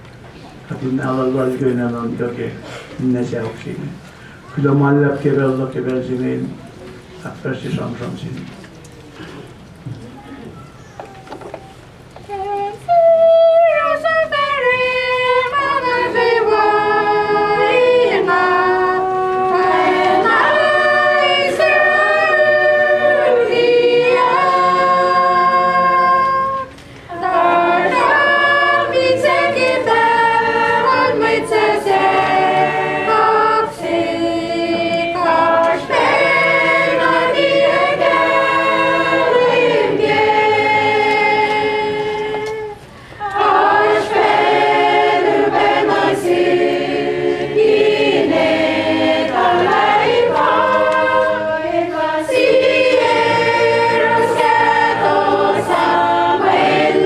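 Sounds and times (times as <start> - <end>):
congregation singing a hymn: 11.0 - 57.0.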